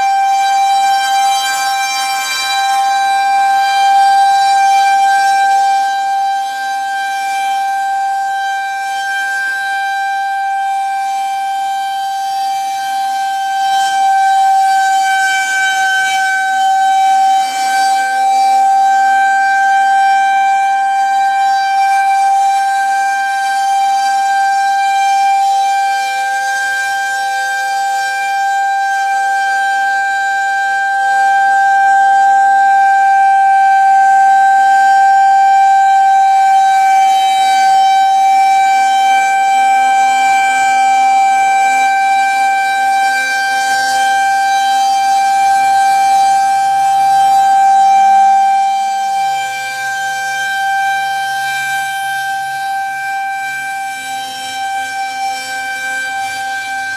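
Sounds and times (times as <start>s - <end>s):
rotating siren steady tone: 0.0s - 56.9s.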